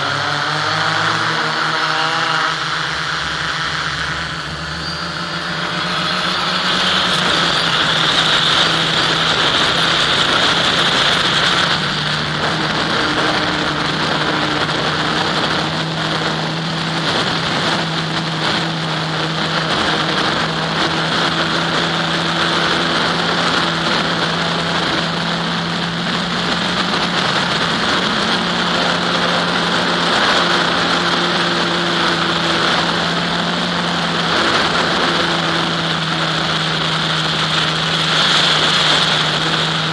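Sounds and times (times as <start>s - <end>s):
model airplane motor droning: 0.0s - 39.9s.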